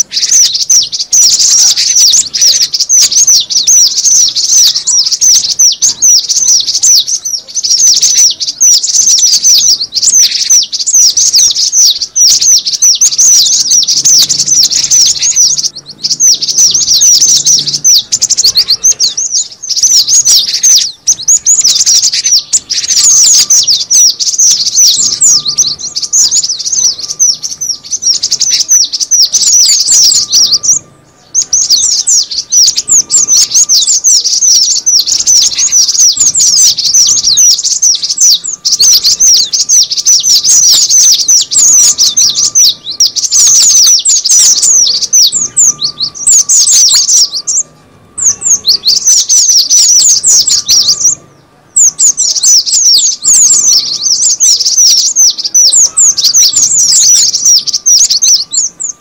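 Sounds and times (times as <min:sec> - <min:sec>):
bird high sharp chirps: 0:00.0 - 0:59.0.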